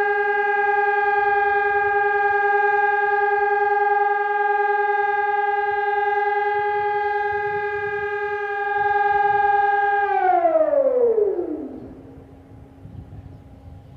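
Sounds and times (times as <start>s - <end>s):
warning siren winding down: 0.0s - 12.7s.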